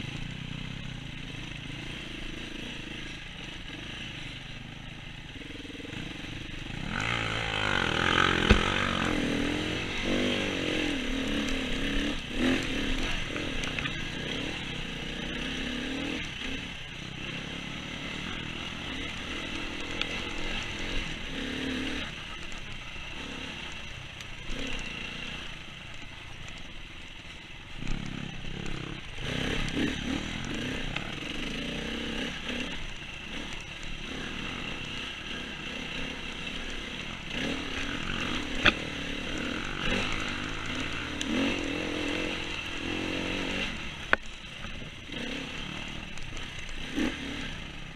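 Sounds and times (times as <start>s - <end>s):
dirt bike engine revving: 0.0s - 26.6s, 27.2s - 47.9s.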